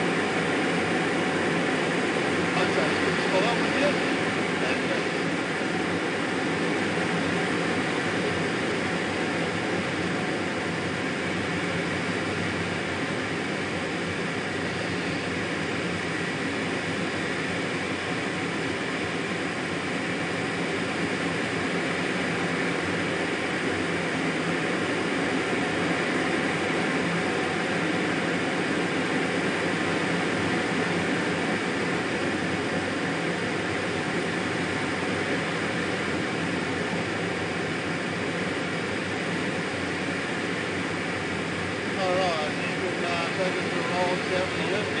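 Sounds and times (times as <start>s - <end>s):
faint steady whine: 0.0s - 45.0s
jet engine and airflow in cockpit: 0.0s - 45.0s.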